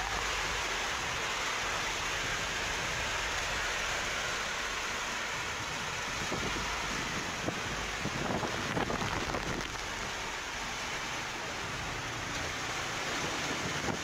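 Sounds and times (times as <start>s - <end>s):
wind driving heavy rain: 0.0s - 14.0s.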